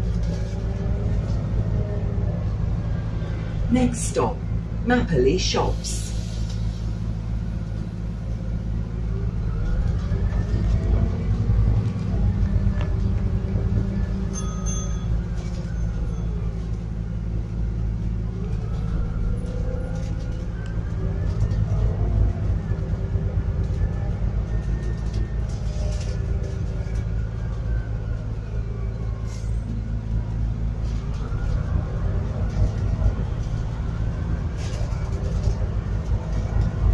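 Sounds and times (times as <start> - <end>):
bus engine drone: 0.0 - 36.9
rising engine whine: 0.0 - 36.9.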